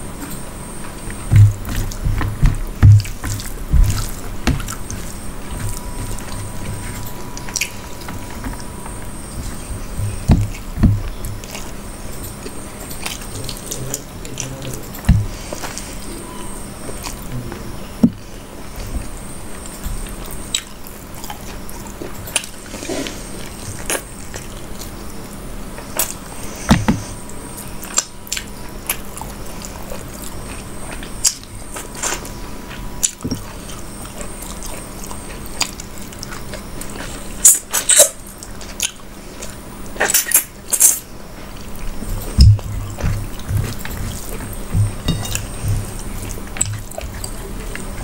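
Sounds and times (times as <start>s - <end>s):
close chewing: 0.0s - 48.0s
faint steady hum: 0.0s - 48.0s.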